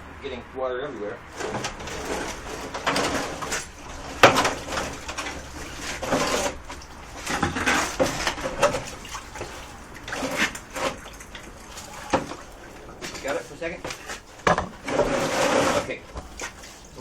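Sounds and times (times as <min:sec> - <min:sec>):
handling knocks and clanks: 0:01.3 - 0:16.6.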